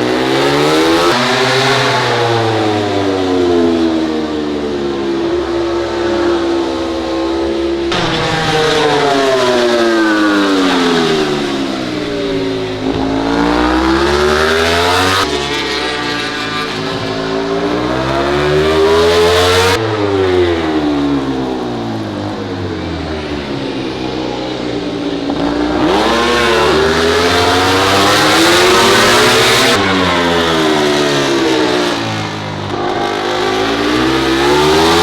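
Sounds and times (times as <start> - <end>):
race motorcycle engines passing: 0.0 - 35.0.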